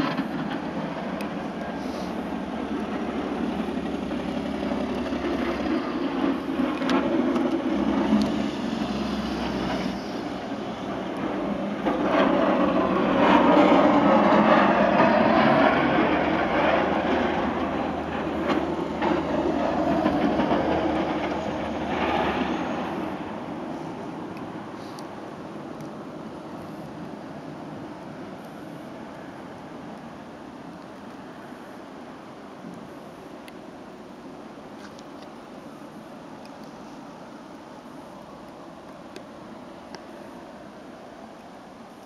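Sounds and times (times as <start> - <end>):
vehicles passing on snowy road: 0.0 - 42.0.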